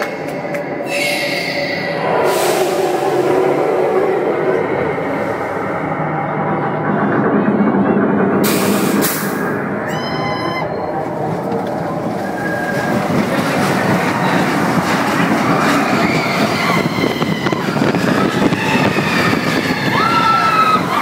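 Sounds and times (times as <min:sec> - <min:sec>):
roller coaster wheels rumbling: 0:00.0 - 0:21.0.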